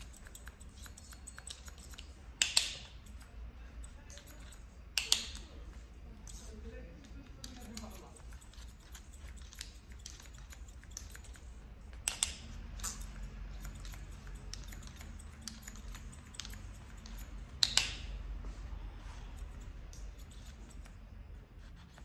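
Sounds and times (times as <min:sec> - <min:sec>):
scissors snipping hair: 0:00.0 - 0:18.2, 0:19.0 - 0:22.0.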